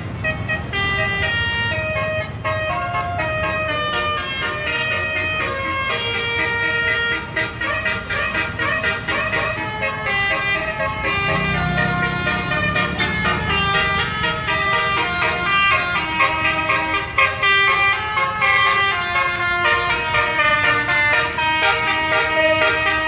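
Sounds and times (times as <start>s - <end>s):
multi-tone bus horns playing tune: 0.0s - 23.0s.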